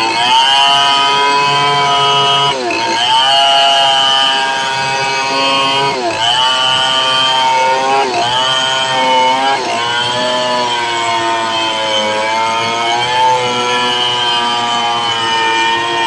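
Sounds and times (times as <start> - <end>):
chainsaw cutting log: 0.0 - 16.0.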